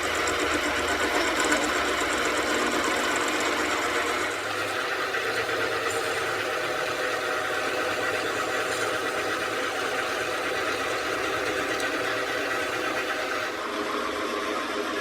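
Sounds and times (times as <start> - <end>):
machine running steadily: 0.0 - 15.0.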